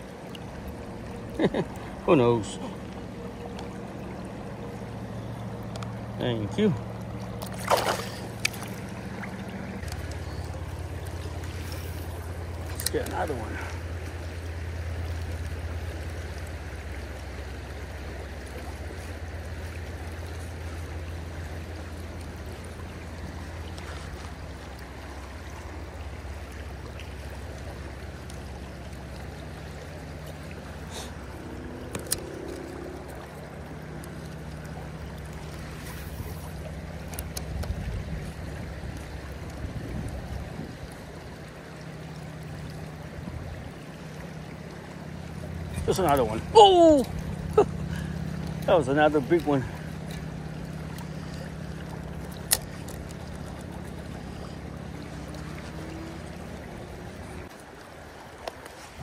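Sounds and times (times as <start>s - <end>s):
low steady rumble: 0.0s - 59.0s
river current rushing: 0.0s - 59.0s.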